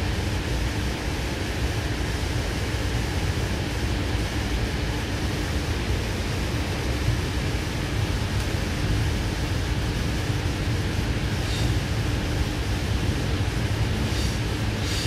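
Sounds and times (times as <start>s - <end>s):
faint steady hum: 0.0s - 15.0s
steady hiss: 0.0s - 15.0s
train wheels rumbling on rail: 0.0s - 15.0s.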